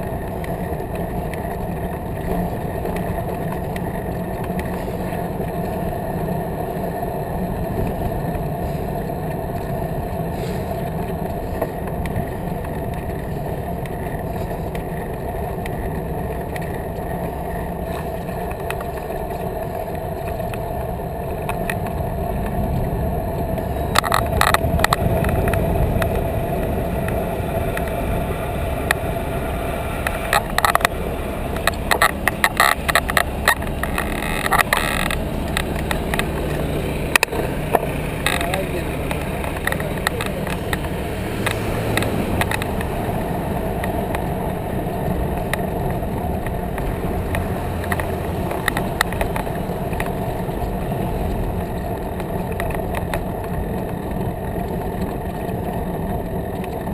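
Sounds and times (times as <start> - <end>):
bicycle tyres rumbling on paving: 0.0 - 56.9
sharp clicks and rattles: 0.0 - 56.9.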